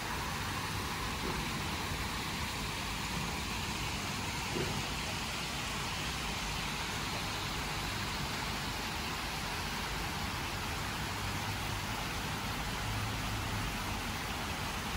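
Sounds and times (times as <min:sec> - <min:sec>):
fountain water splashing: 0:00.0 - 0:14.9.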